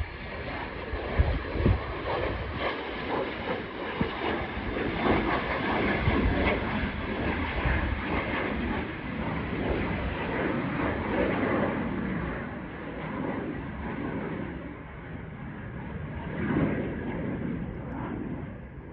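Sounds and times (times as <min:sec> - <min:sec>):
aircraft engines at takeoff: 0:00.0 - 0:18.9.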